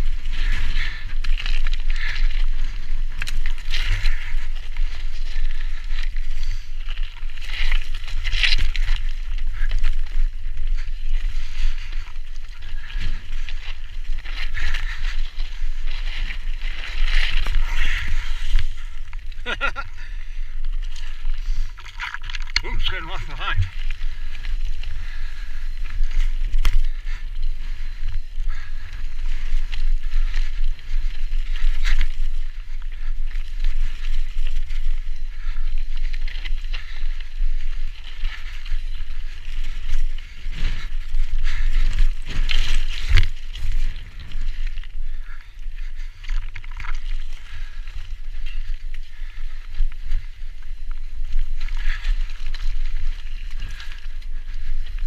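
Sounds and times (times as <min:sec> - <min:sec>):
bike rattling over bumps: 0:00.0 - 0:55.0
bike tyres crunching over gravel: 0:00.0 - 0:55.0.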